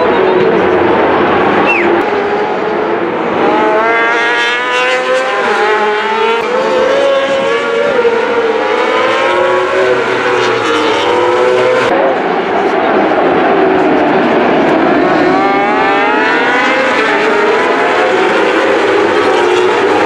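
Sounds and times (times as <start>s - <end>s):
racing motorcycle engines revving: 0.0s - 20.0s.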